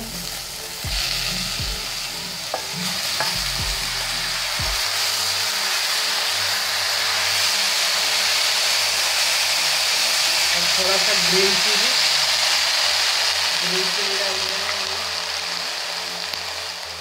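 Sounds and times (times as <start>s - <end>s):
greens sizzling in hot oil: 0.0s - 17.0s.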